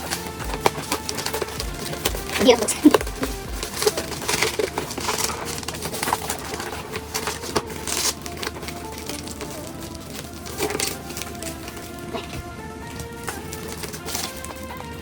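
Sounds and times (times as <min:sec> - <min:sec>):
packaging crackling and scraping: 0:00.0 - 0:15.0.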